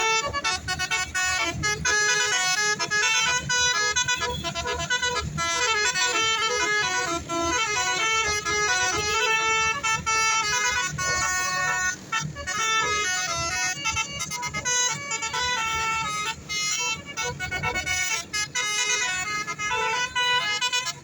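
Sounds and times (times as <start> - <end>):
multi-tone bus horn playing a tune: 0.0 - 21.0.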